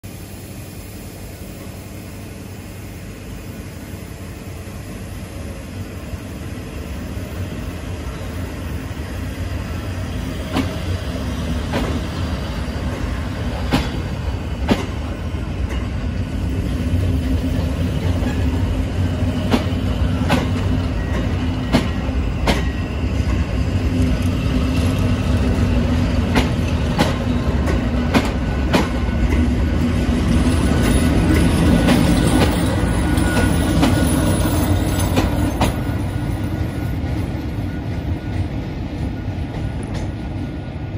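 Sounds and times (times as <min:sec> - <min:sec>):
train rumbling past: 0:00.0 - 0:40.9
electric locomotive passing: 0:00.1 - 0:40.9.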